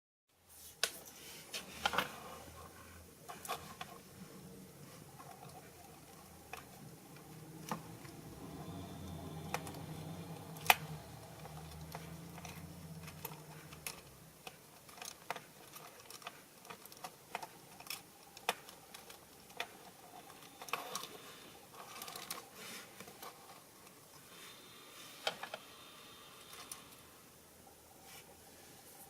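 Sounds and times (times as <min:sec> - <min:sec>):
low mechanical hum: 0:00.3 - 0:29.0.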